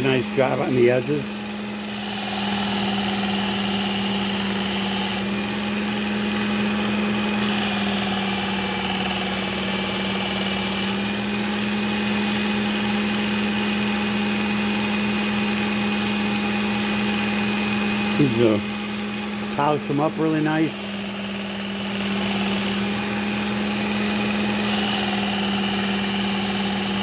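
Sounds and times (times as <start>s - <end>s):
belt sharpener motor hum: 0.0s - 27.0s.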